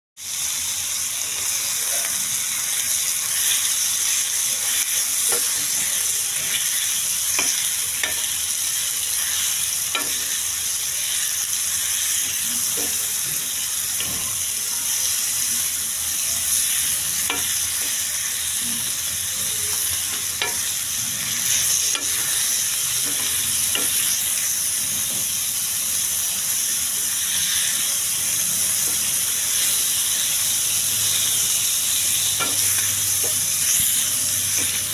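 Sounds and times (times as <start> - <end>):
food sizzling in hot oil: 0.2 - 34.9.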